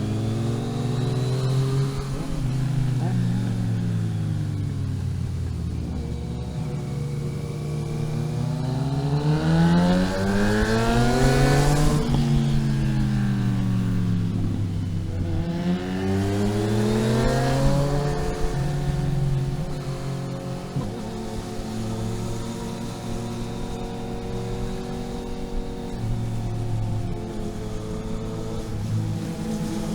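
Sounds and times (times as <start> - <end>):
vehicle engine accelerating: 0.0 - 29.9.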